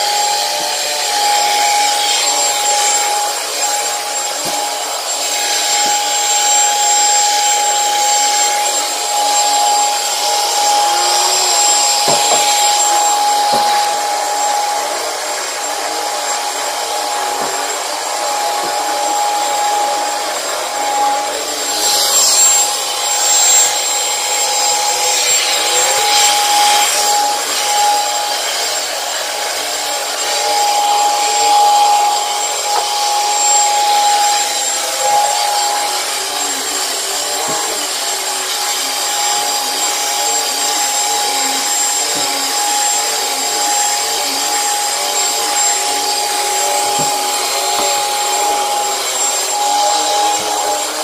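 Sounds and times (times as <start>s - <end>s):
vacuum cleaner motor whine: 0.0s - 51.0s.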